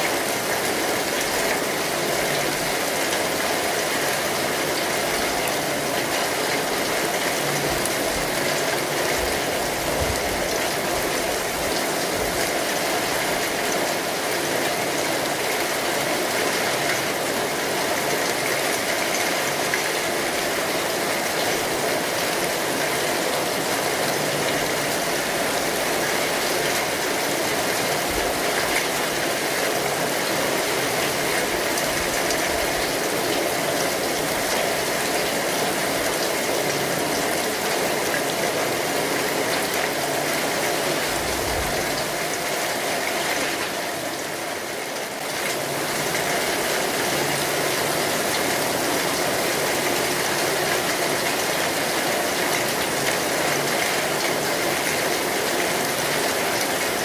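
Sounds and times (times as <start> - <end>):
rain on an umbrella: 0.0 - 57.0.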